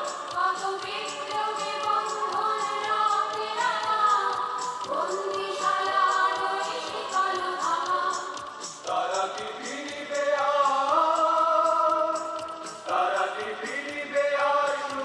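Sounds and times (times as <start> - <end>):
choir singing long held notes: 0.0 - 15.0
steady ticking beat: 0.0 - 15.0.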